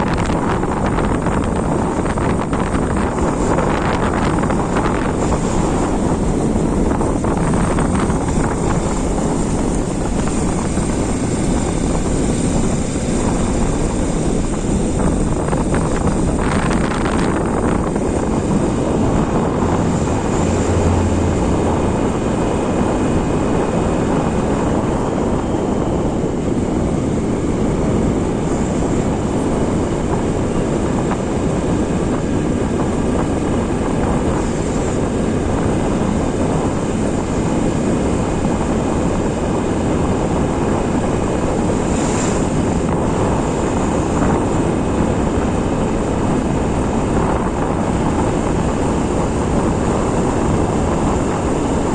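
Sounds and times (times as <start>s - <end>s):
motorcycle engine running: 0.0s - 51.9s
wind rushing over microphone: 0.0s - 51.9s.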